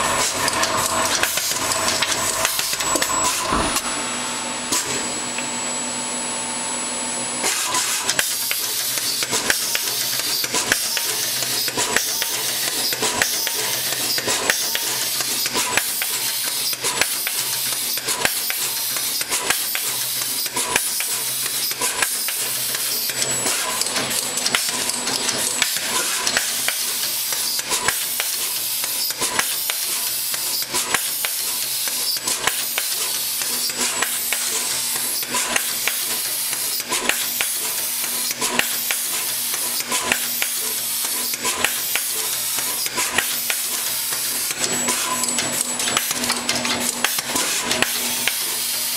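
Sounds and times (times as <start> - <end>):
machine hissing: 0.0 - 5.1, 7.4 - 48.9.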